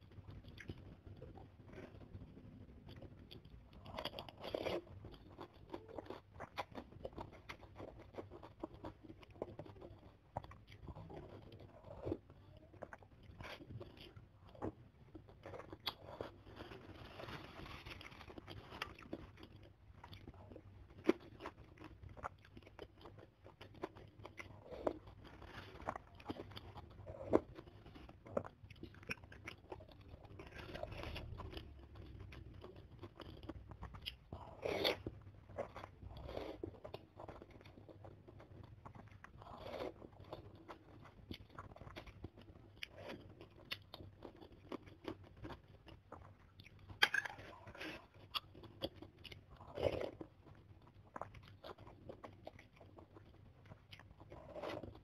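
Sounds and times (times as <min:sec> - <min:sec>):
wet chewing with smacks: 0:00.2 - 0:55.0.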